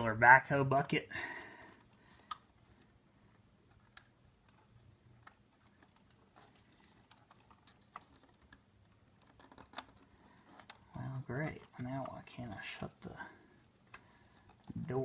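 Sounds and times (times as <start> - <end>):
plastic toy parts clicking: 1.7 - 15.0.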